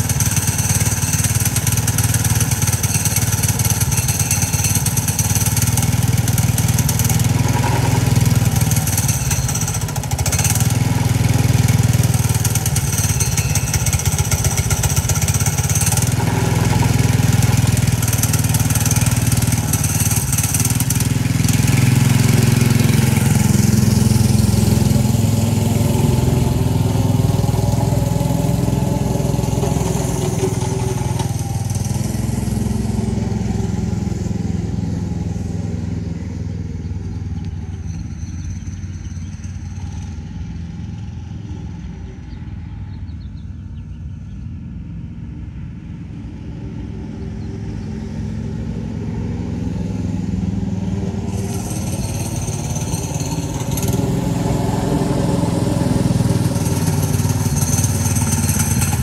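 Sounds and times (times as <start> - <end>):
scooter engine running: 0.0 - 43.4, 46.4 - 59.0.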